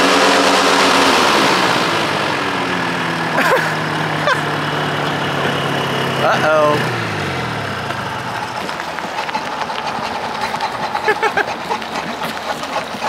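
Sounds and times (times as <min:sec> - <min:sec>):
two-stroke engine buzzing: 0:00.0 - 0:13.0.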